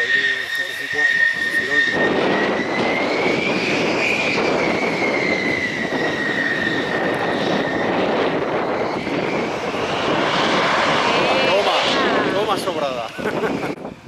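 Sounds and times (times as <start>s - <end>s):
jet engine roar with high whine: 0.0s - 14.0s.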